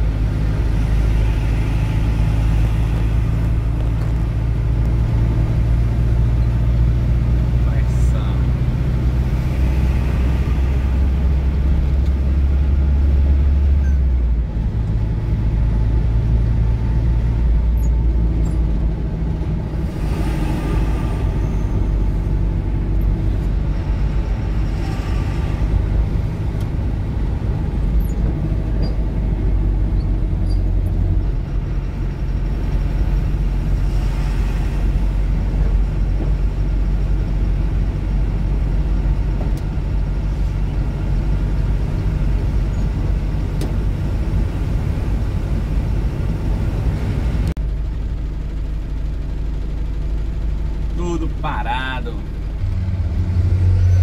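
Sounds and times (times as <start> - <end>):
road noise: 0.0 - 54.0
vehicle engine droning: 0.0 - 54.0.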